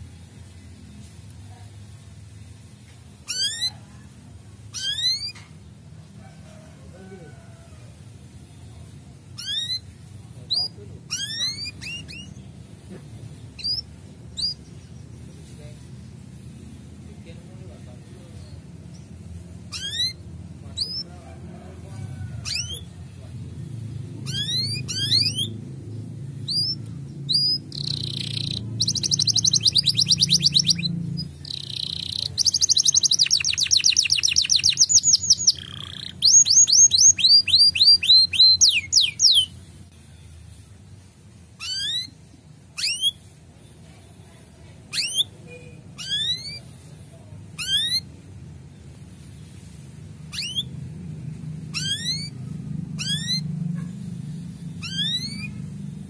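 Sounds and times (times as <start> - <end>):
canary singing: 3.1 - 7.7, 8.4 - 56.0.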